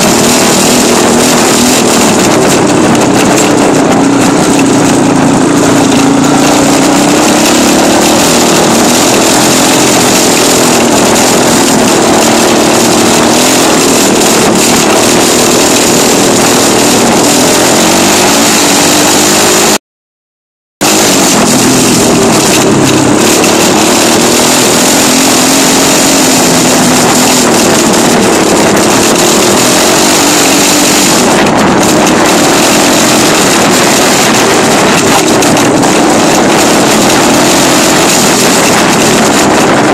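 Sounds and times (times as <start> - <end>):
dirt bike engine revving: 0.0 - 19.8, 20.8 - 39.9.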